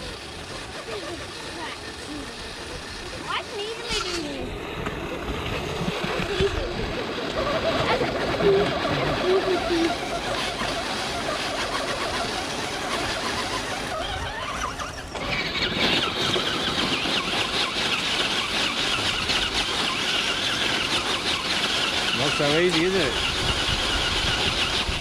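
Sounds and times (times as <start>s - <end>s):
toy car electric motor whining: 0.0s - 25.0s.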